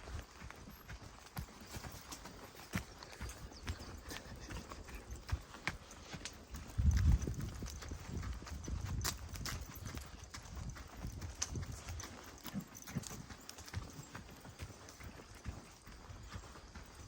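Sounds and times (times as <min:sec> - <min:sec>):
footsteps on forest track: 0:00.0 - 0:17.0.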